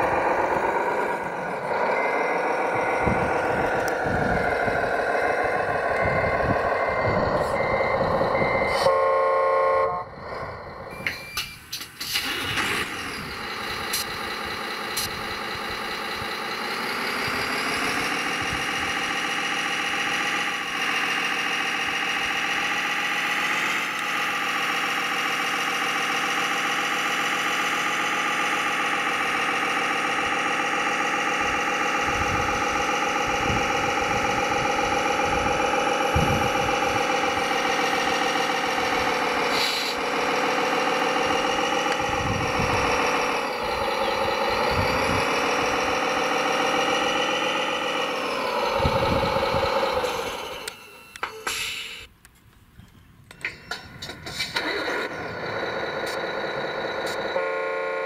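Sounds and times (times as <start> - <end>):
simulated diesel engine running: 0.0 - 58.0.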